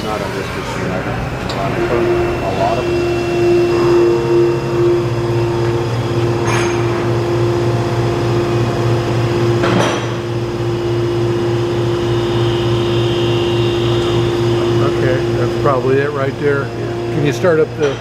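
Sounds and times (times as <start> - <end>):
lathe machine humming: 0.0 - 18.0.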